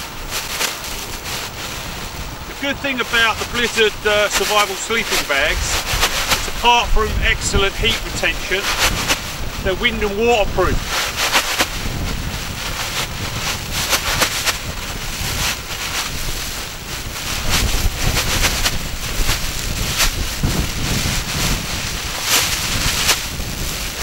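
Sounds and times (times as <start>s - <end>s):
wind rumble on microphone: 0.0s - 9.8s, 10.4s - 24.0s
crinkly sheet rustling and crackling: 0.0s - 24.0s.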